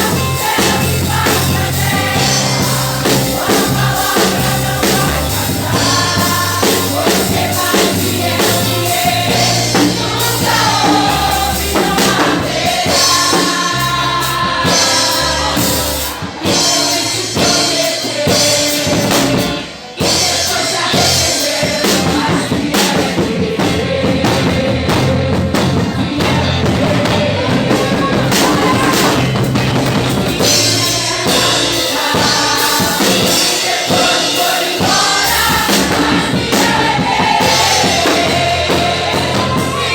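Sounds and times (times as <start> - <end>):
song with drums and bass: 0.0 - 39.9.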